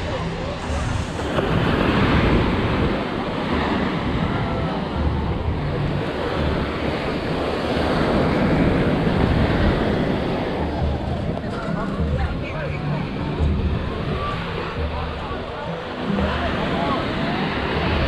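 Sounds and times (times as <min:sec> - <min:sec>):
ocean surf washing onto beach: 0:00.0 - 0:18.0
wind buffeting microphone: 0:00.0 - 0:18.0.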